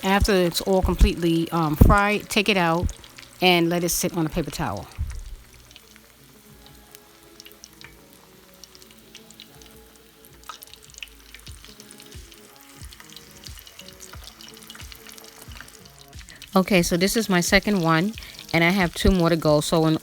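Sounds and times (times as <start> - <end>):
chicken frying in oil: 0.0 - 20.0
soft background music: 0.0 - 20.0.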